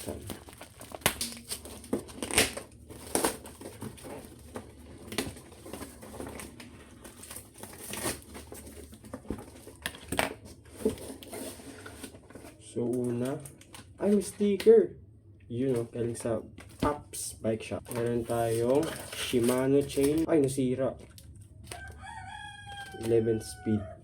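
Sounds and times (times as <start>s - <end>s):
packaging crinkling and rustling: 0.0s - 14.8s, 15.6s - 23.6s.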